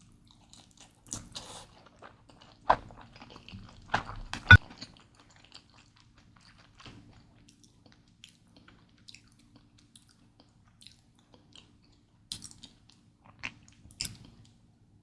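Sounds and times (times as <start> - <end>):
chewing noodles: 0.3 - 14.6.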